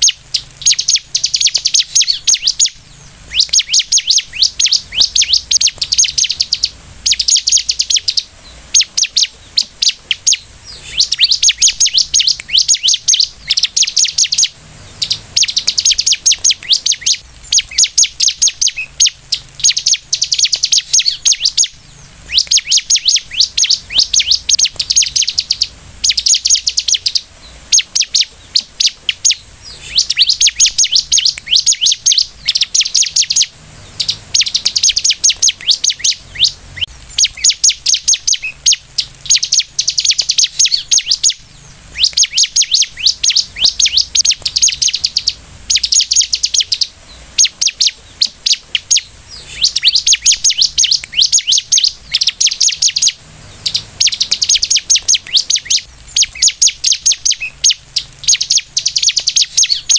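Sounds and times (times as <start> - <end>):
bird singing sharp chips: 0.0 - 59.9.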